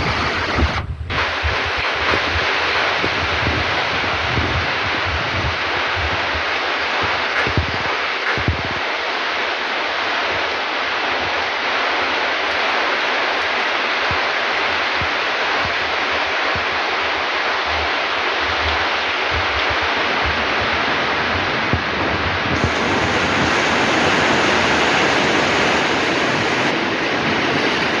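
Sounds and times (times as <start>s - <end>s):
heavy rain in strong wind: 0.0s - 28.0s.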